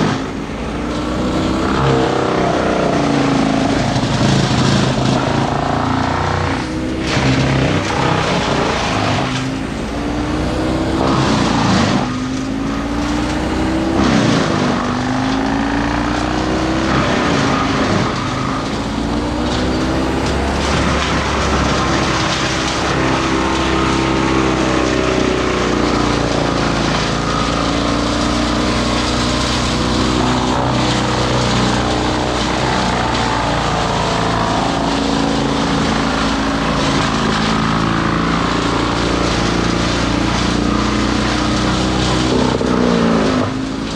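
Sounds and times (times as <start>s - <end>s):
chainsaw engine revving: 0.0s - 43.9s.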